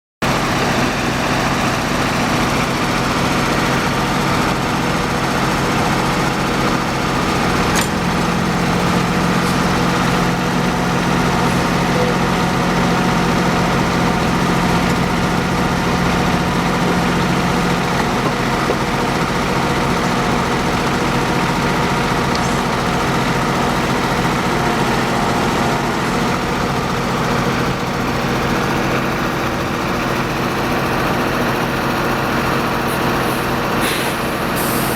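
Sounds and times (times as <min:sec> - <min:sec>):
small tractor engine running: 0:00.2 - 0:34.9.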